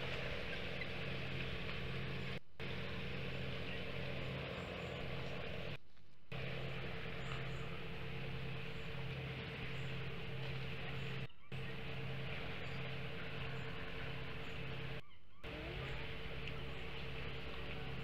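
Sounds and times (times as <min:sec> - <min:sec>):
steady low hum with hiss: 0:00.0 - 0:18.0.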